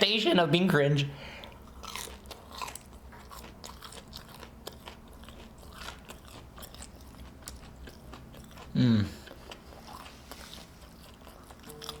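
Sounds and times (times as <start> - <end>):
chewing crunchy food: 1.4 - 12.0.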